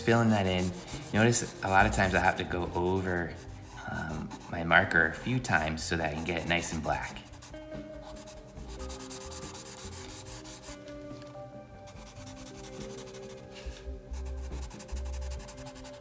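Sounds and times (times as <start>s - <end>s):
marker scratching on paper: 0.0s - 5.0s, 6.0s - 10.8s, 11.9s - 16.0s
soft background music: 0.0s - 16.0s.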